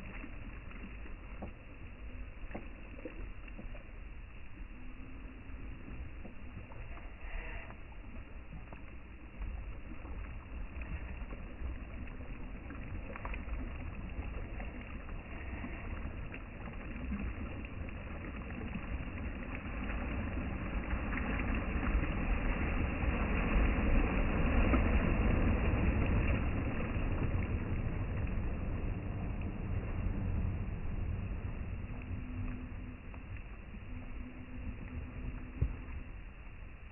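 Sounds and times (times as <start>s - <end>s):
sea water surging: 0.0s - 36.9s.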